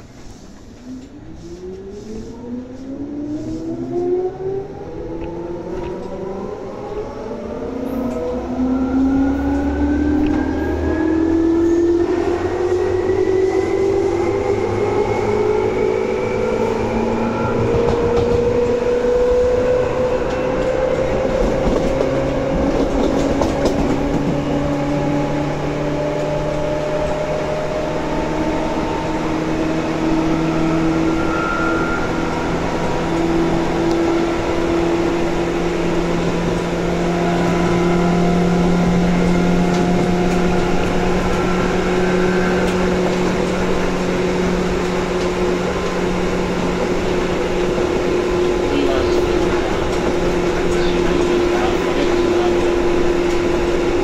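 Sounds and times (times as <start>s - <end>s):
wheels rumbling on track: 0.0s - 54.0s.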